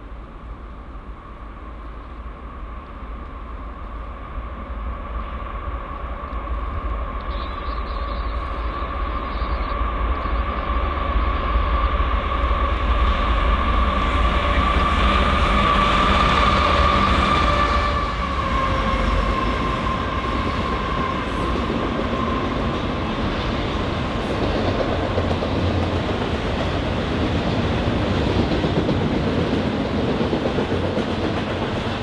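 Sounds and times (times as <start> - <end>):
diesel train deep rumble: 0.0 - 32.0.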